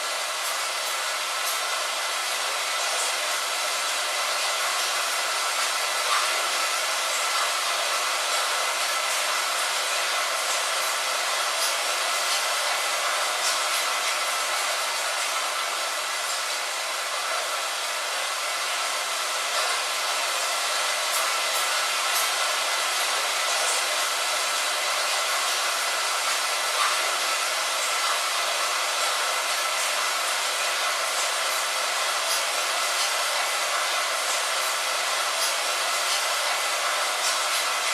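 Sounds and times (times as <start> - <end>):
rain falling steadily: 0.0 - 37.9.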